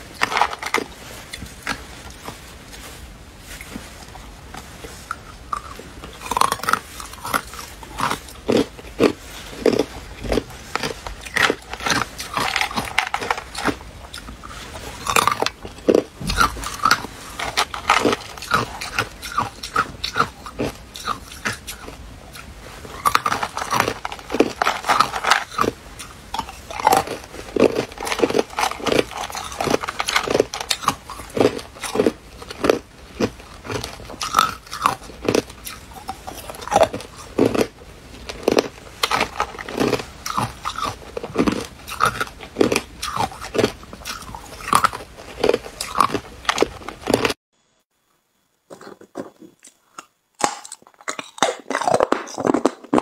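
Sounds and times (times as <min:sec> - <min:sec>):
ice cubes being chewed: 0:00.0 - 0:47.4, 0:48.8 - 0:53.0.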